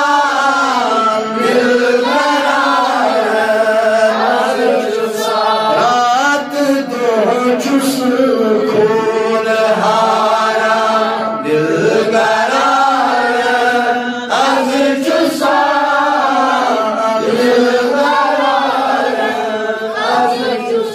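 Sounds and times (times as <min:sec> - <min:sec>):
man chanting melodically: 0:00.0 - 0:20.9.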